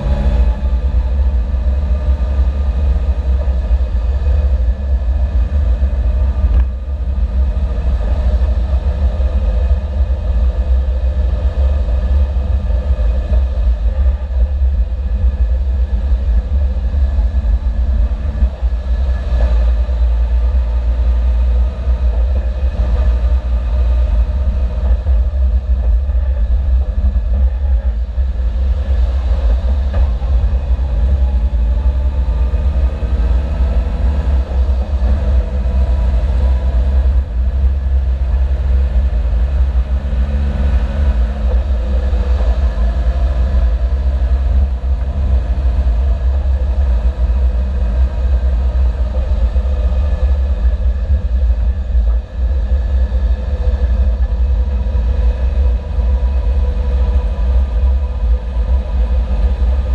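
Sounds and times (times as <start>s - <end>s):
car engine changing gears: 0.0s - 59.9s
road and wind rumble: 0.0s - 59.9s.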